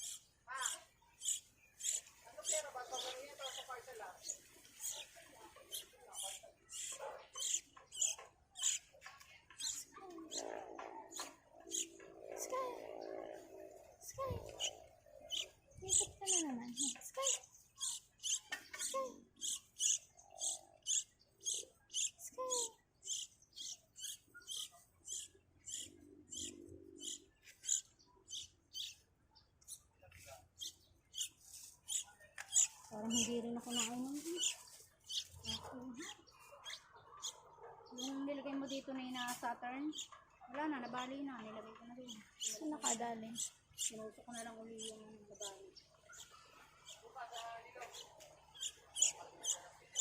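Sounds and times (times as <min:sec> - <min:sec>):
baby bird cheeping: 0:00.0 - 0:05.1, 0:05.7 - 0:08.9, 0:09.6 - 0:12.8, 0:13.9 - 0:29.0, 0:30.6 - 0:38.8, 0:42.2 - 0:47.0, 0:47.9 - 0:50.0.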